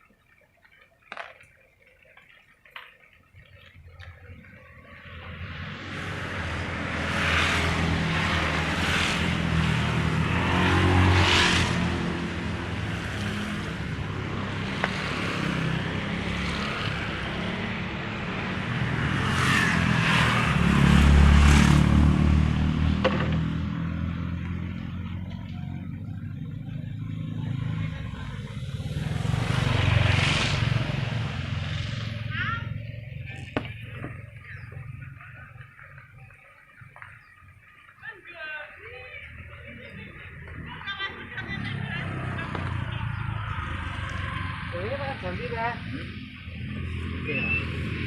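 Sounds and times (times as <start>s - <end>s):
traffic rumble and hiss: 0.0s - 48.0s
vehicles passing: 0.0s - 48.0s.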